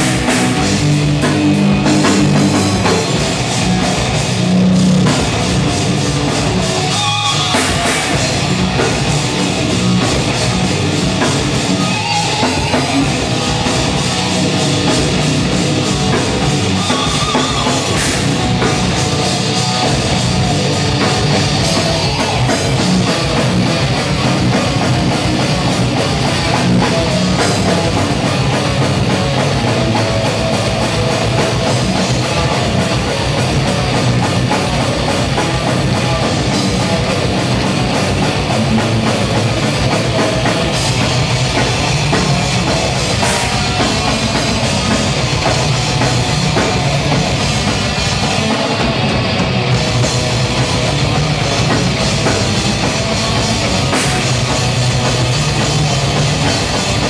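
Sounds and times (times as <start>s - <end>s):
bass guitar: 0.0s - 57.0s
distorted electric guitars: 0.0s - 57.0s
rapid kick drum beats: 0.0s - 57.0s.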